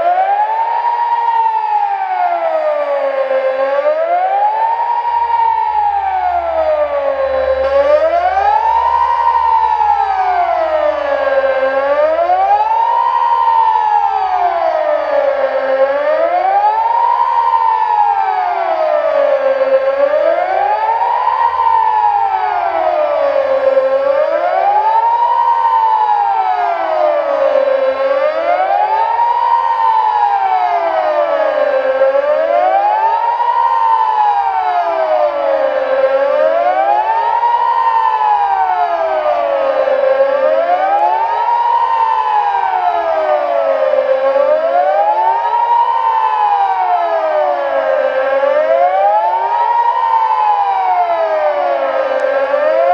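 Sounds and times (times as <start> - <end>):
wailing sirens: 0.0 - 52.9.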